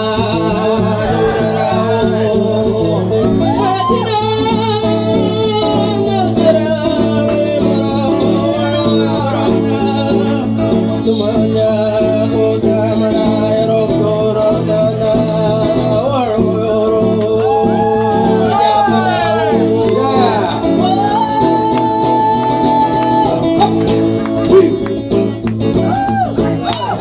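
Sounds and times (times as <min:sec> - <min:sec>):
man singing into a microphone: 0:00.0 - 0:25.4
acoustic guitar: 0:00.0 - 0:27.0.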